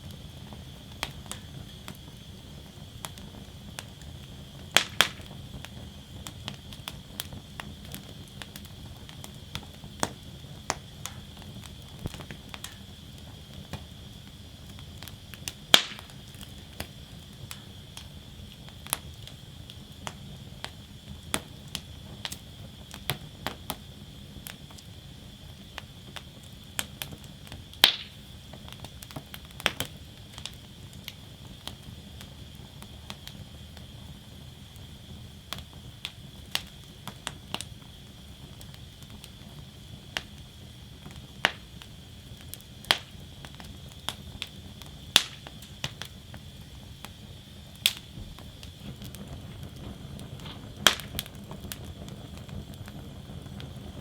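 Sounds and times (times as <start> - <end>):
loud fire pops: 0.0 - 54.0
wood fire crackling: 0.0 - 54.0.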